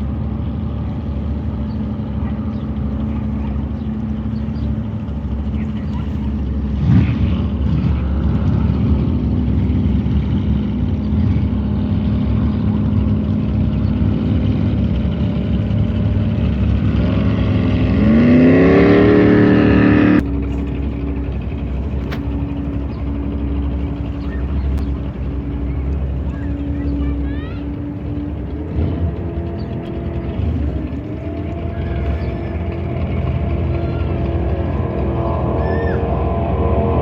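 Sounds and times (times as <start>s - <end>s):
jet boat engine revving: 0.0s - 37.0s.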